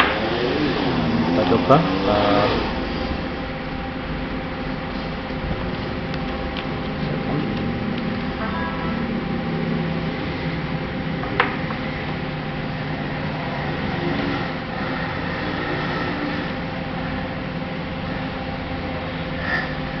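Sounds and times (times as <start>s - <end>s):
constant hum: 0.0s - 20.0s
mechanical whir: 0.0s - 20.0s.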